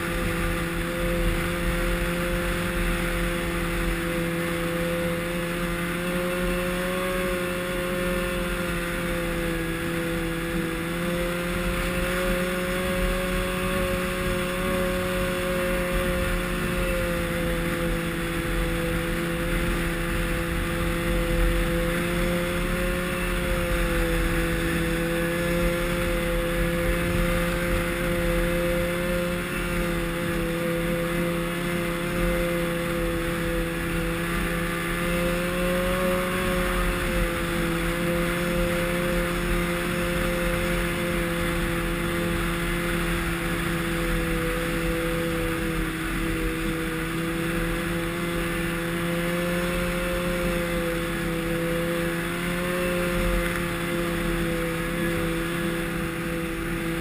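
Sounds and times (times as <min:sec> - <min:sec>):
snowmobile engine running: 0:00.0 - 0:57.0
steady rushing noise: 0:00.0 - 0:57.0.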